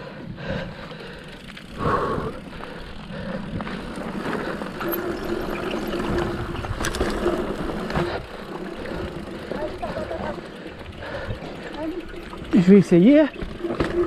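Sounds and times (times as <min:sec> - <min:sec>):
bike tyre chain and frame rattle: 0:00.0 - 0:14.0.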